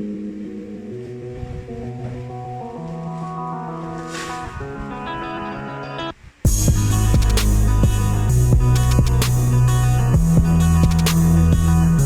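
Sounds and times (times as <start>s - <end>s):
background music sustained chords: 0.0s - 12.0s.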